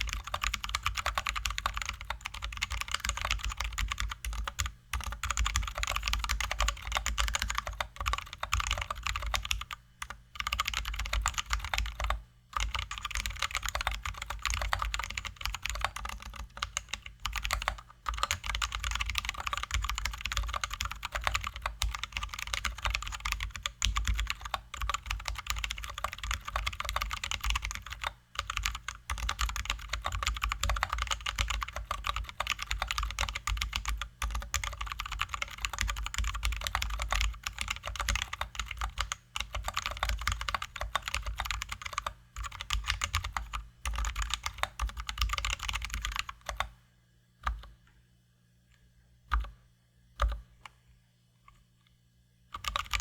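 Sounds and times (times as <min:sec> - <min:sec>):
fast mechanical keyboard typing: 0:00.0 - 0:46.7, 0:52.6 - 0:53.0.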